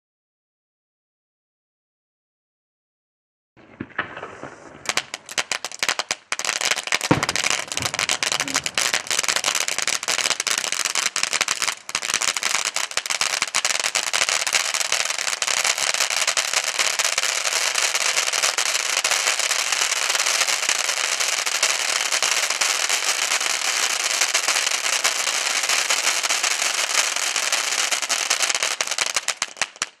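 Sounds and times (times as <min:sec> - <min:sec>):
firework crackling: 0:03.6 - 0:30.0.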